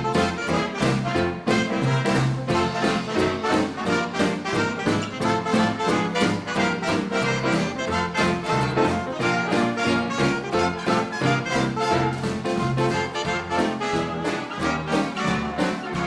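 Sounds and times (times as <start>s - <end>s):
big band playing: 0.0s - 16.0s.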